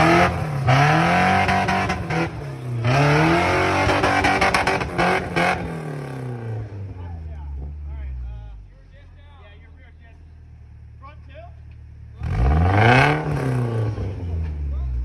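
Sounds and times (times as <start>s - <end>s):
off-road truck engine revving: 0.0s - 9.4s, 10.4s - 15.0s.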